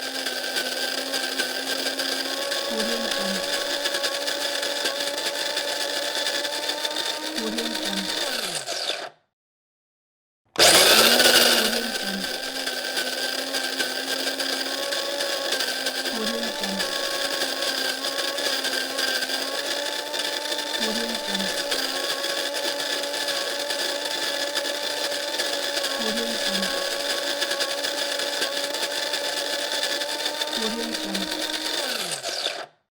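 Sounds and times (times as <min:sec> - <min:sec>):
electric coffee grinder grinding: 0:00.0 - 0:09.2, 0:10.6 - 0:32.8.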